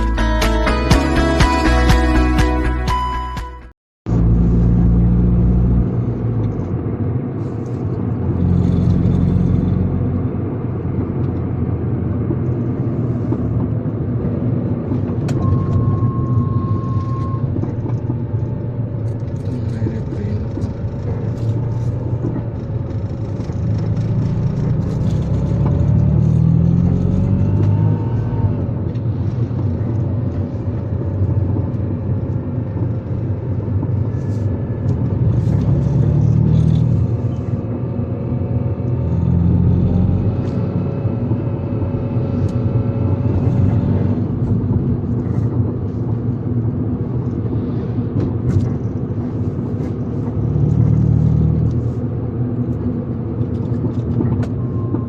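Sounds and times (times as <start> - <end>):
vehicle road and engine rumble: 4.1 - 55.0.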